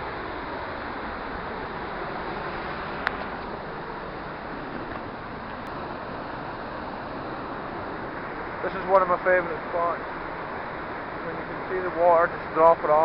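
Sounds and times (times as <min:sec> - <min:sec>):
waterfall and river rushing: 0:00.0 - 0:13.0.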